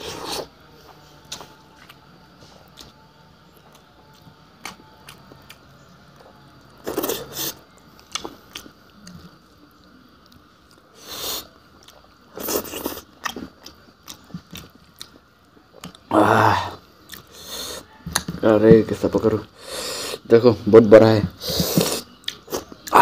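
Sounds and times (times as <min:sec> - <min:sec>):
person chewing: 0:00.0 - 0:09.5, 0:10.2 - 0:18.3, 0:21.4 - 0:23.0.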